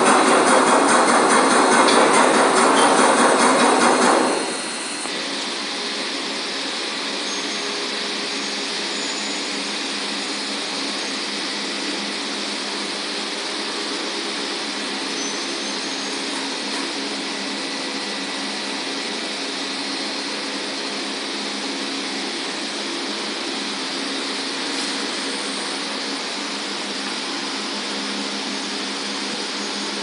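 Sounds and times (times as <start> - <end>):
factory machinery drone: 0.0 - 30.0.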